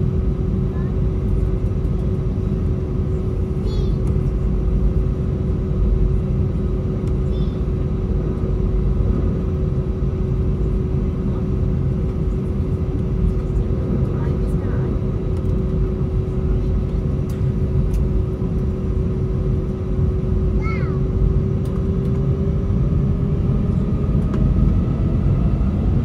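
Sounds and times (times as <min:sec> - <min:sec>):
aircraft cabin engine rumble: 0:00.0 - 0:26.0
constant hum tone: 0:00.0 - 0:26.0.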